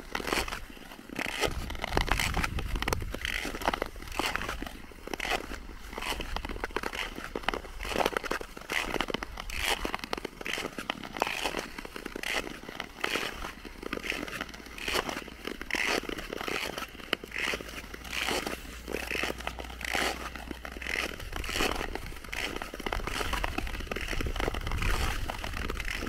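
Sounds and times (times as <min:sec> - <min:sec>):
ice crackling: 0:00.0 - 0:26.0
ice skates scraping on ice: 0:00.0 - 0:26.0.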